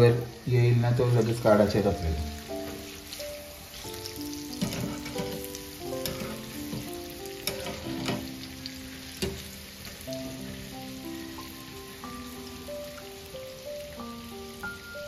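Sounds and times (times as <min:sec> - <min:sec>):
batter frying in hot oil: 0:00.0 - 0:15.0
gentle background music: 0:00.0 - 0:15.0.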